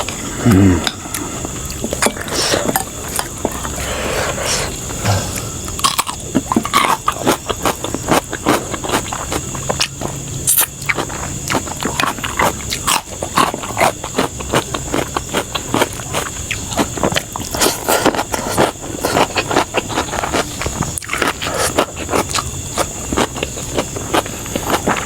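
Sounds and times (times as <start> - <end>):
person chewing and crunching: 0.0 - 25.0.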